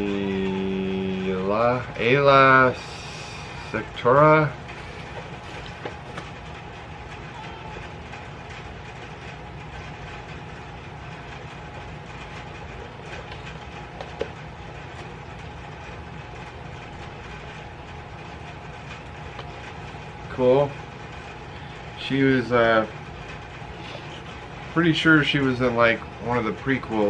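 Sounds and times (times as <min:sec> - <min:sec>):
room noise hum and hiss: 0:00.0 - 0:27.0.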